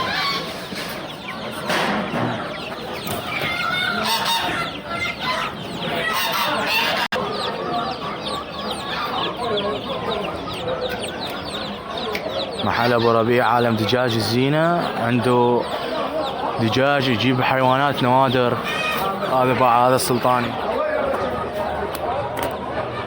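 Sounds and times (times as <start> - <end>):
chickens clucking: 0.0 - 23.0
roosters crowing: 0.0 - 23.0.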